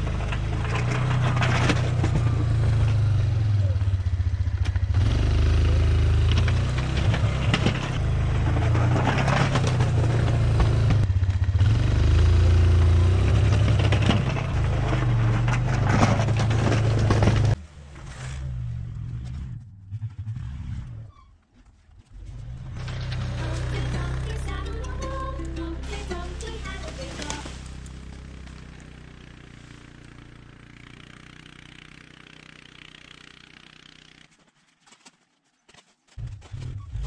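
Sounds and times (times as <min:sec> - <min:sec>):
atv engine under load: 0:00.0 - 0:17.6, 0:22.1 - 0:34.4
plow scraping snow: 0:00.0 - 0:21.2, 0:22.0 - 0:34.4.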